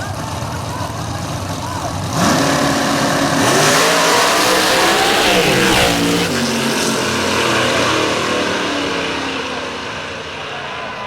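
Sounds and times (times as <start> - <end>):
drag racing car engine accelerating: 0.0 - 11.0.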